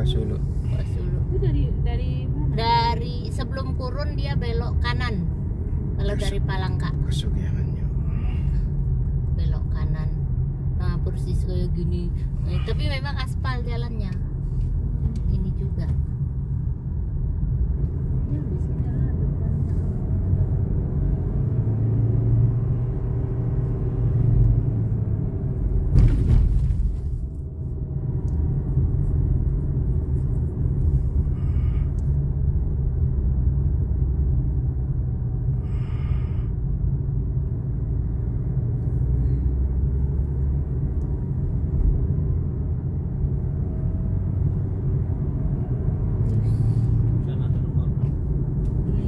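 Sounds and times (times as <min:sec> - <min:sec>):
car engine and tyre rumble: 0:00.0 - 0:49.0.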